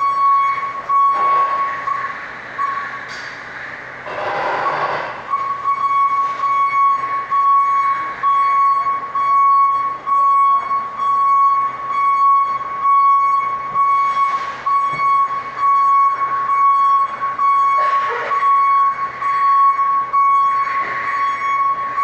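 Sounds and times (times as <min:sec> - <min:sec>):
electronic alarm tone: 0:00.0 - 0:03.0, 0:04.1 - 0:22.0.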